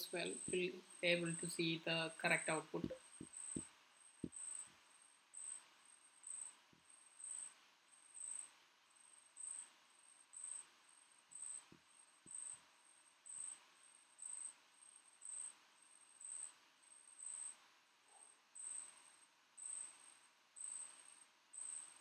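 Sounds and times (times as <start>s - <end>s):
cricket chirping: 3.2s - 22.0s.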